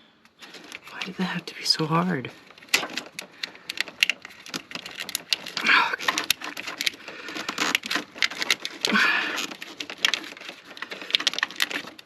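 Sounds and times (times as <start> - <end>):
hands handling plastic parts: 0.2 - 12.0.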